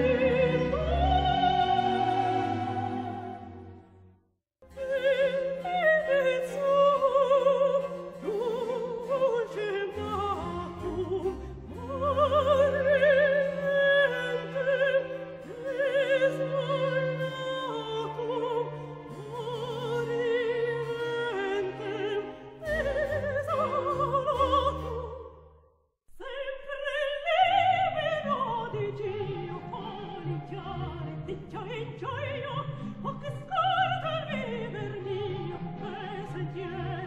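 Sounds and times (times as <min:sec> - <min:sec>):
operatic soprano singing: 0:00.0 - 0:03.8, 0:04.6 - 0:25.4, 0:26.1 - 0:37.0.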